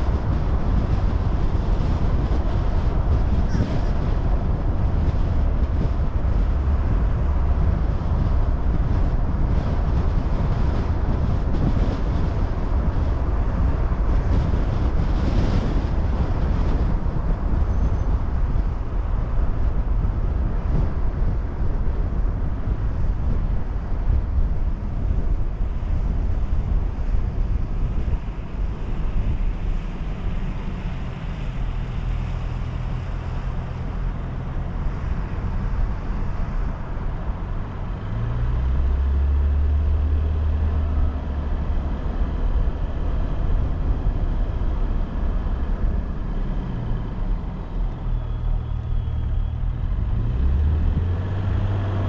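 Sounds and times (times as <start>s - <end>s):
tyre and road noise: 0.0s - 52.0s
wind buffeting microphone: 0.0s - 52.0s.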